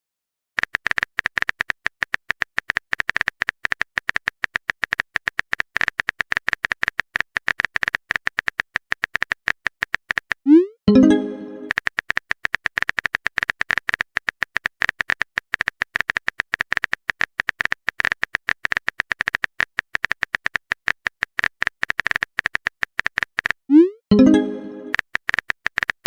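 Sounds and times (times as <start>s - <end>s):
keyboard typing clicks: 0.6s - 26.0s.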